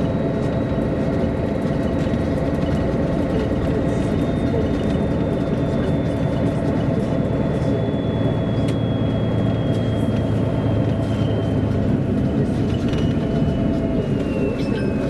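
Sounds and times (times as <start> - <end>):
bus engine and running noise: 0.0 - 15.0.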